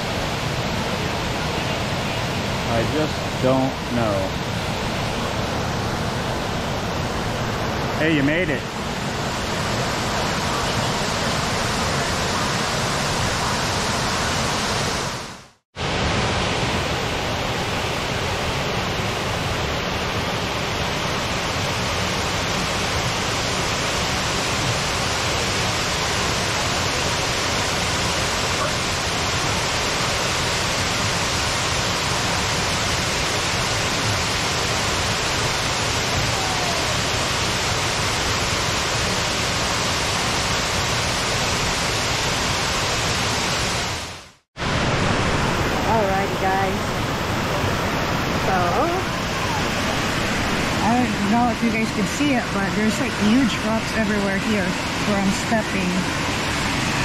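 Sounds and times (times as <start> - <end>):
waterfall rushing into a pool: 0.0 - 57.0.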